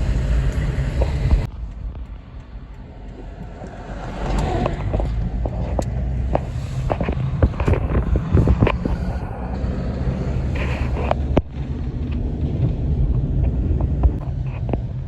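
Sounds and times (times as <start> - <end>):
vehicle road noise rumble: 0.0 - 15.0.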